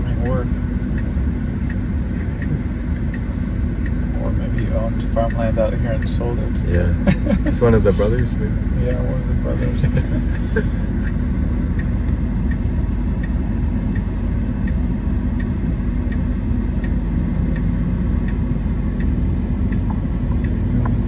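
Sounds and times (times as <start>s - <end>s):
low rumble in car cabin: 0.0s - 21.0s
turn signal ticking: 0.0s - 21.0s.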